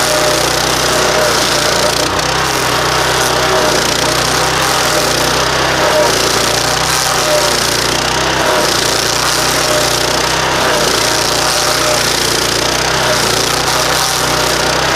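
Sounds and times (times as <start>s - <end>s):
cutting wheel chewing wood: 0.0s - 14.9s
stump grinder engine: 0.0s - 14.9s.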